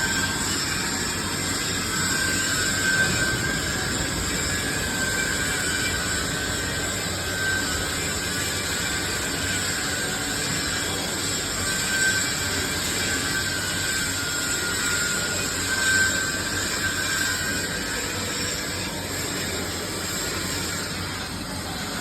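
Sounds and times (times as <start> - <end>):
faint high whine: 0.0 - 22.0
welding arc hiss and hum: 0.0 - 22.0.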